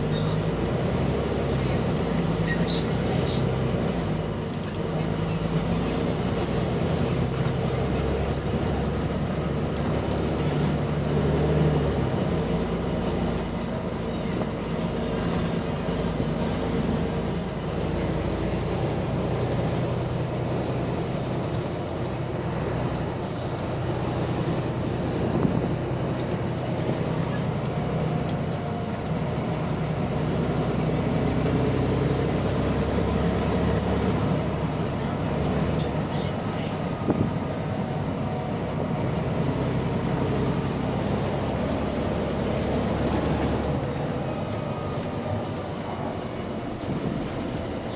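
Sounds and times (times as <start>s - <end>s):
bus engine running: 0.0s - 47.9s.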